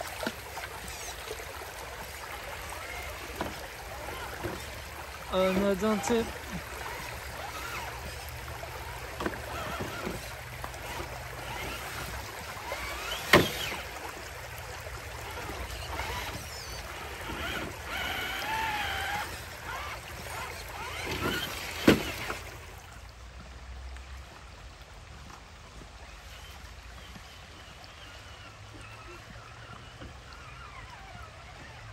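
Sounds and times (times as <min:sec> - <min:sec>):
water splashing in creek: 0:00.0 - 0:31.9.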